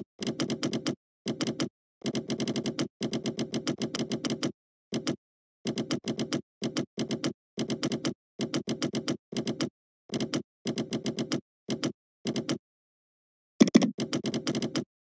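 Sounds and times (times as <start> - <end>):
keyboard typing clicks: 0.0 - 12.6, 13.6 - 14.9.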